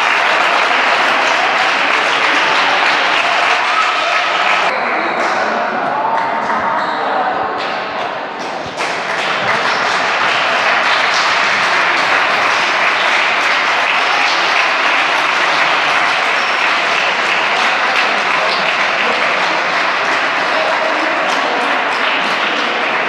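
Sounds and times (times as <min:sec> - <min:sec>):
crowd applauding: 0:00.0 - 0:06.3, 0:08.4 - 0:23.0.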